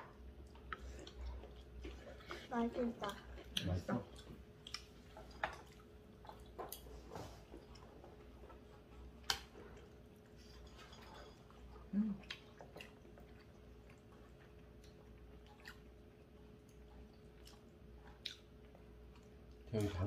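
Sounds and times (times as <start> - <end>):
faint chewing: 0.0 - 20.0
low steady hum: 0.0 - 20.0.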